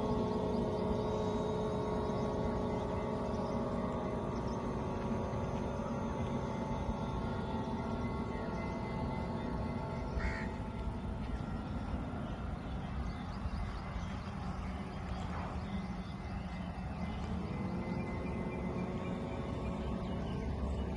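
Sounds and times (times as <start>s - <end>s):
bird calling: 0.0s - 20.9s
outdoor background noise: 0.0s - 20.9s.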